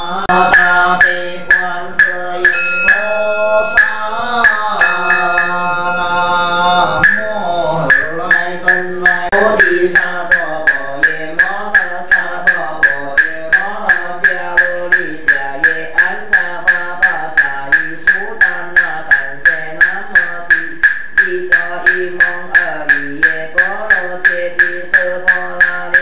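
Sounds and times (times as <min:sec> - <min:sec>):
person chanting: 0:00.0 - 0:26.0.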